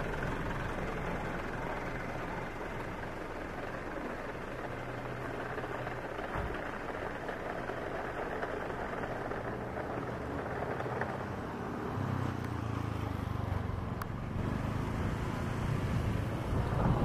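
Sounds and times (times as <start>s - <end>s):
propeller plane droning overhead: 0.0s - 17.0s.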